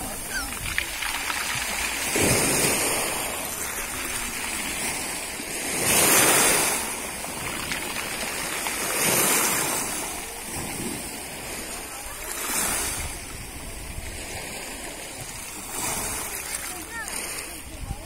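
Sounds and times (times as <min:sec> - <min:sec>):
small sea waves washing: 0:00.0 - 0:18.0.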